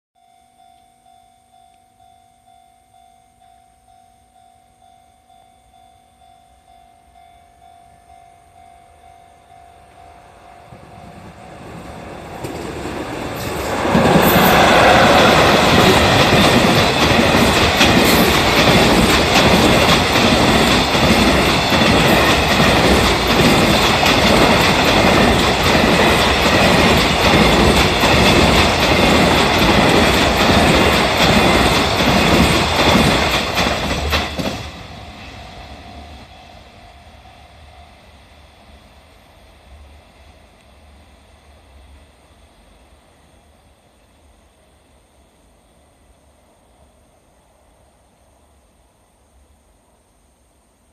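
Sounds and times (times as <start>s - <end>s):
freight train passing: 4.4s - 49.7s.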